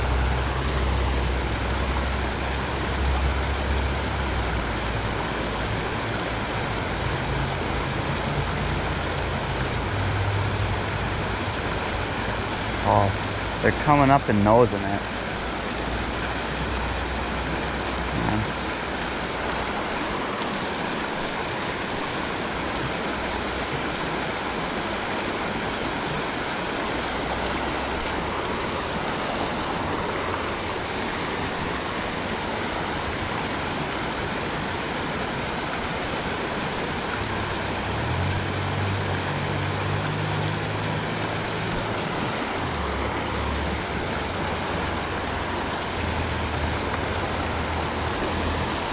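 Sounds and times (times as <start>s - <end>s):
creek water flowing: 0.0s - 48.9s.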